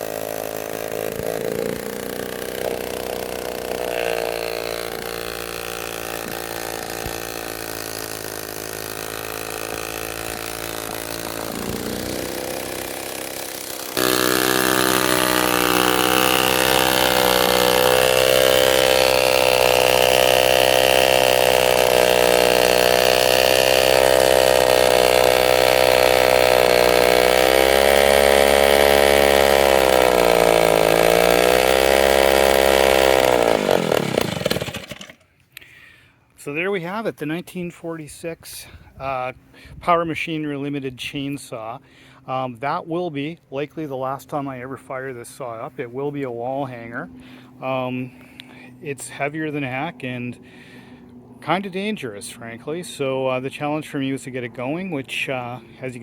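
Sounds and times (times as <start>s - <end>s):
chainsaw engine running: 0.0s - 36.1s, 44.0s - 56.0s.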